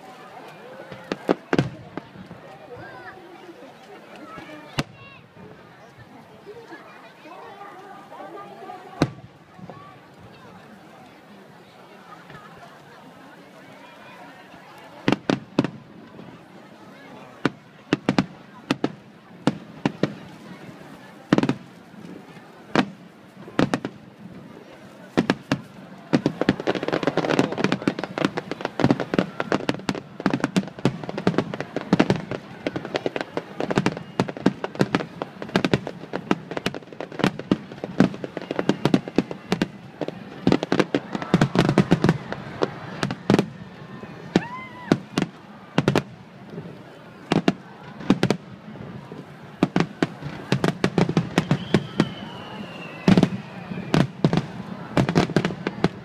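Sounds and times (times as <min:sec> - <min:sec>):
fireworks bangs and crackles: 0:00.0 - 0:06.2, 0:07.6 - 0:11.1, 0:12.1 - 0:56.0.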